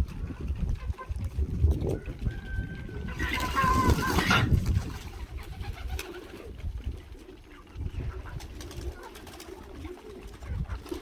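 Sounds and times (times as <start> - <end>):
pigeons cooing: 1.8 - 11.0.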